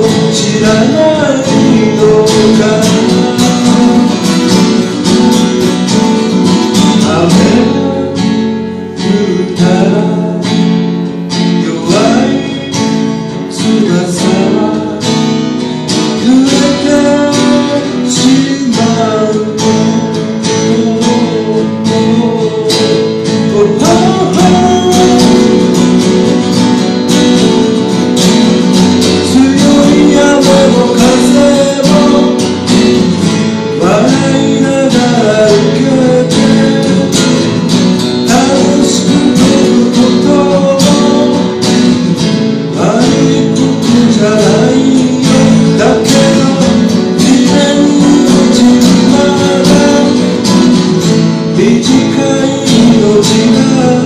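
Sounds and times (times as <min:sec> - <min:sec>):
acoustic guitars strummed: 0:00.0 - 0:54.0
man singing: 0:00.0 - 0:54.0.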